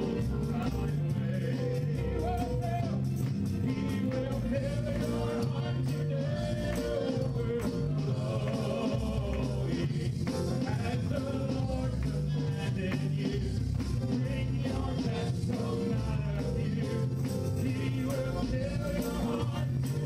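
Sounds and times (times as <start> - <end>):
drum kit: 0.0 - 20.0
keyboard: 0.0 - 20.0
people singing together: 0.0 - 20.0.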